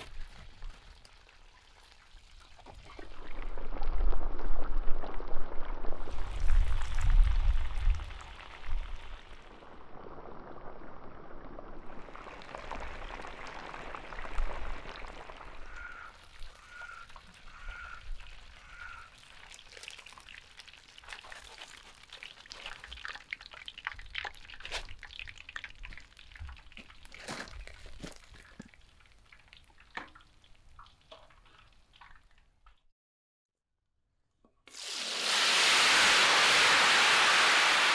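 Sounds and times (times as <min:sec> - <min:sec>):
frying oil sizzling and crackling: 0:00.0 - 0:03.7, 0:05.9 - 0:32.4, 0:34.7 - 0:37.9.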